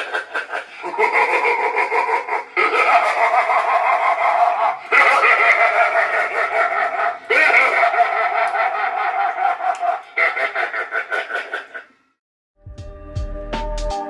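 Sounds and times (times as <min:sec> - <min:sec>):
recorded creature growls and screeches: 0:00.0 - 0:12.1.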